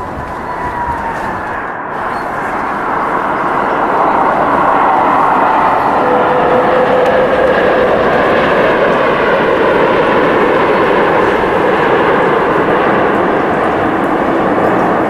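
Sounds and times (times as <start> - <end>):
airplane engine noise: 0.0 - 15.0
faint tones drifting lower: 0.0 - 15.0.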